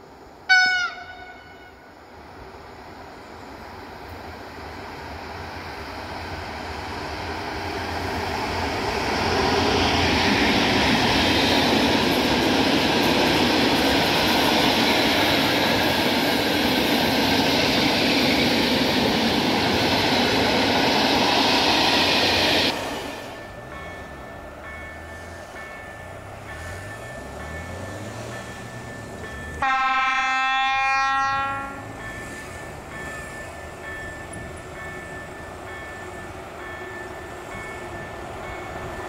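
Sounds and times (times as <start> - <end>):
freight train wheels on rail: 0.0 - 39.0.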